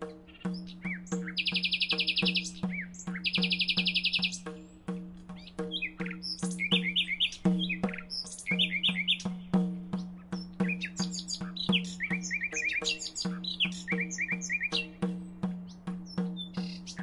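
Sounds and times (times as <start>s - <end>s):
bird chirps: 0.0s - 17.0s
bird trills: 0.0s - 17.0s.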